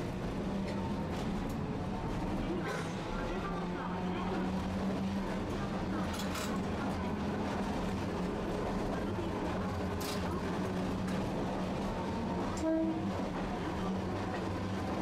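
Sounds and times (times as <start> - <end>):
streetcar hum: 0.0 - 15.0
wheel and track rumble: 0.0 - 15.0.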